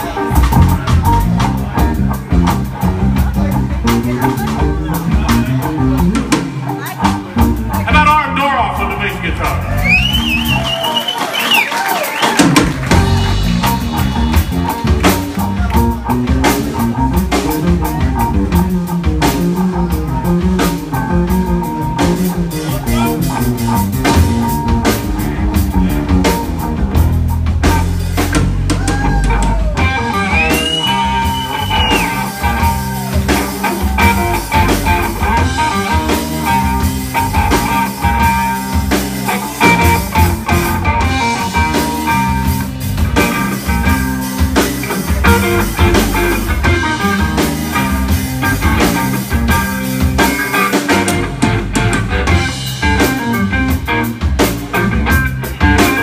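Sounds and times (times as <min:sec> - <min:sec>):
electric bass line: 0:00.0 - 0:10.9, 0:12.6 - 0:56.0
drum kit beat: 0:00.0 - 0:56.0
electric guitar lead: 0:00.0 - 0:56.0.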